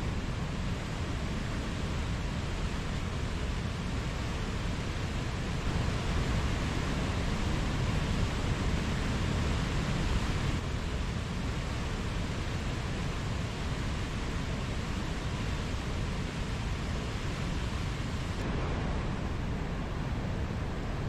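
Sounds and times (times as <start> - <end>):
mountain stream flowing: 0.0 - 21.0.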